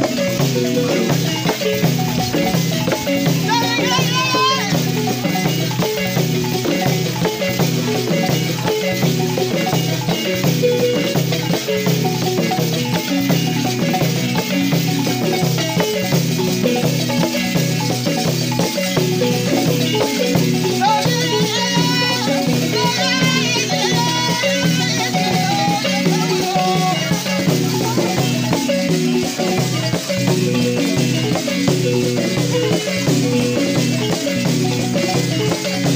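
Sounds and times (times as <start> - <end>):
balafon: 0.0 - 35.9.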